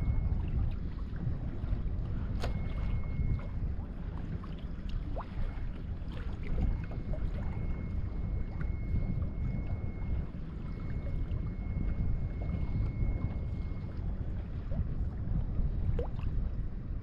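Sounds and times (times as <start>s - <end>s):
faint thin steady tone: 0.0s - 17.0s
small waves lapping against hull: 0.0s - 17.0s
wind buffeting microphone: 0.0s - 17.0s.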